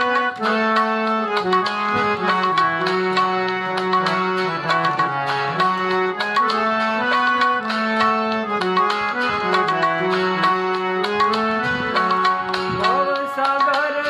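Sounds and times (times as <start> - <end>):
harmonium melody: 0.0 - 14.0
tabla strokes: 1.4 - 13.9.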